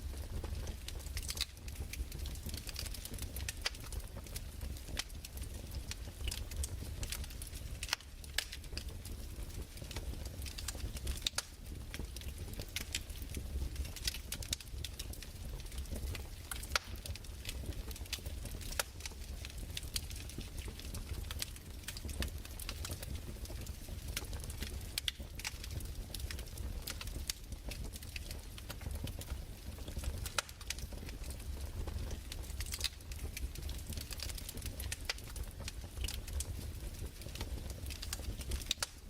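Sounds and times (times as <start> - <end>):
fire low rumble: 0.0 - 39.0
fireplace crackling and popping: 0.0 - 39.0.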